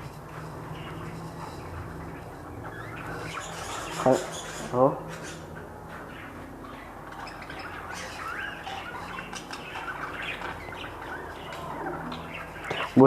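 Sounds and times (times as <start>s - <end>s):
cage birds chirping: 0.0s - 13.0s.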